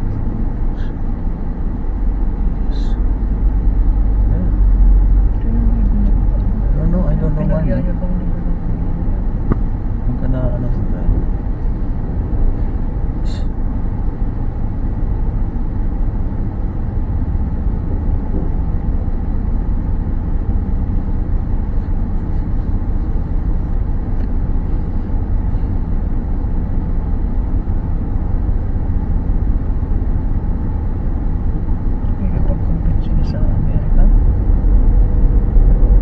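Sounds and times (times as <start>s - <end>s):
car driving rumble: 0.0s - 36.0s.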